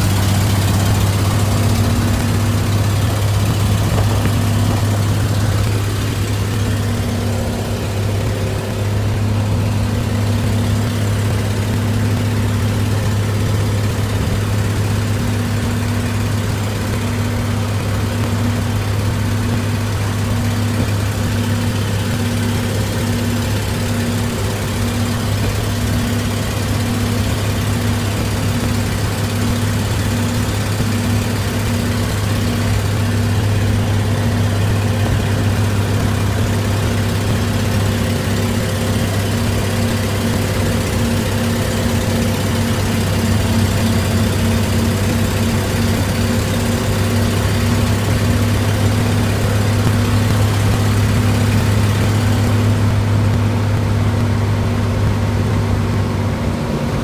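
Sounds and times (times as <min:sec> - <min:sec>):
road and wind noise: 0:00.0 - 0:57.0
truck engine running: 0:00.0 - 0:57.0.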